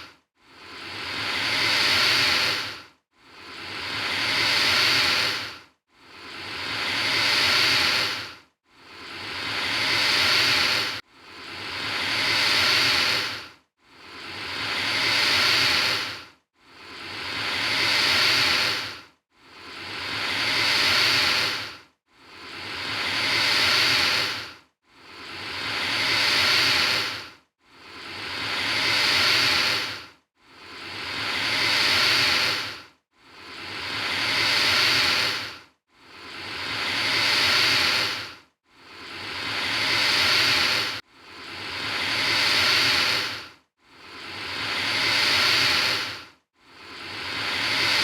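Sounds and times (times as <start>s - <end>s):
alligator hissing: 0.0s - 2.8s, 3.4s - 5.5s, 6.2s - 8.3s, 9.0s - 11.0s, 11.6s - 13.4s, 14.1s - 19.0s, 19.6s - 27.2s, 27.9s - 30.0s, 30.7s - 32.8s, 33.4s - 35.6s, 36.2s - 38.3s, 38.9s - 43.5s, 44.1s - 48.0s.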